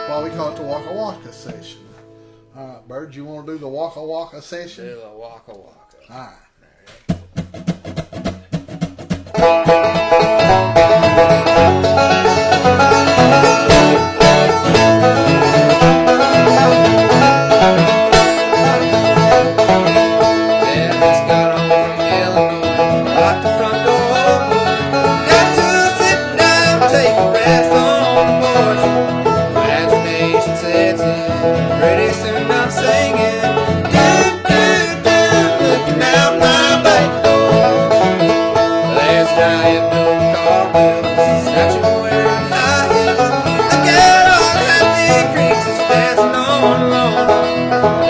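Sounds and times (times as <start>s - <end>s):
banjo and guitar bluegrass tune: 0.0s - 6.1s, 6.7s - 48.0s.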